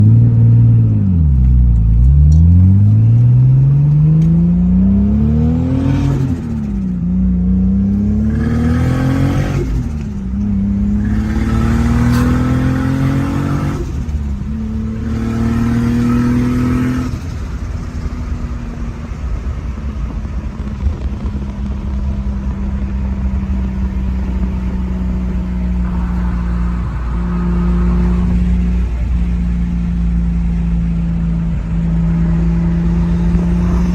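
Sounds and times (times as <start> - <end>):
car engine revving through gears: 0.0 - 18.2, 20.2 - 33.9.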